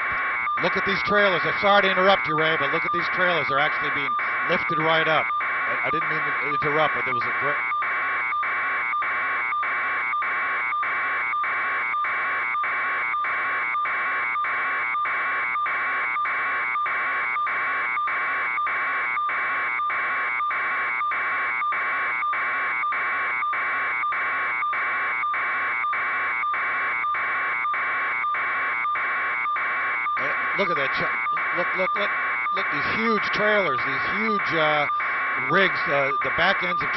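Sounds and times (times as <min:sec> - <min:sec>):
pulsing electronic alarm tone: 0:00.0 - 0:36.9.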